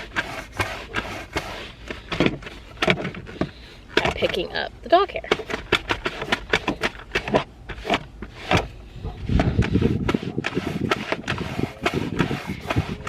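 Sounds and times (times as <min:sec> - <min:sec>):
roller scraping on carpet: 0:00.0 - 0:03.6, 0:05.3 - 0:13.0.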